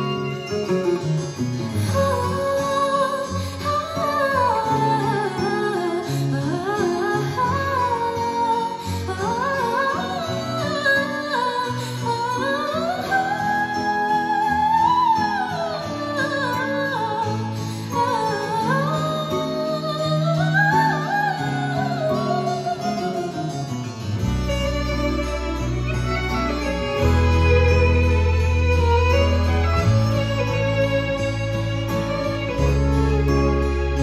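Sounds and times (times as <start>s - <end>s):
woman singing: 1.7s - 34.0s.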